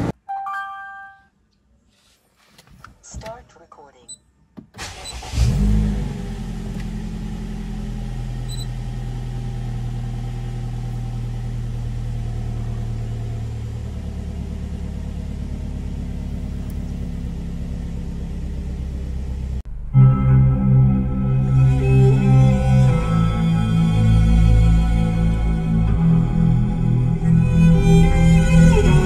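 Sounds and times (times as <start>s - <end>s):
car engine starting and idling: 4.6s - 29.0s.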